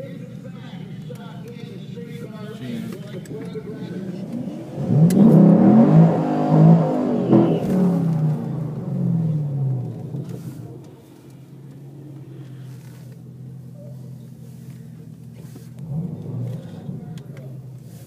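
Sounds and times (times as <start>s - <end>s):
car engine idling from inside: 0.0s - 18.0s
car engines revving: 0.0s - 18.0s.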